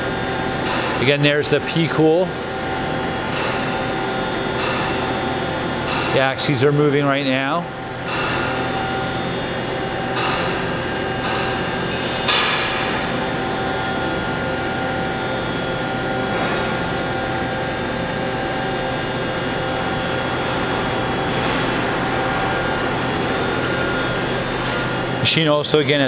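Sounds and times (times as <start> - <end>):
machining center whine: 0.0 - 26.0.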